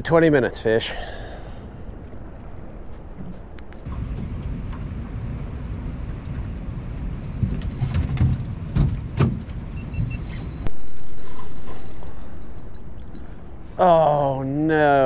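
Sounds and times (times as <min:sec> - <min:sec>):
wind rumble on microphone: 0:01.5 - 0:15.0.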